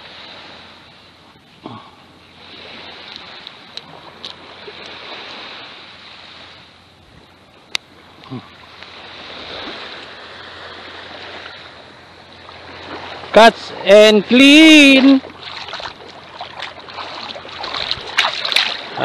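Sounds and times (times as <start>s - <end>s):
waves washing on a beach: 0.0s - 19.0s.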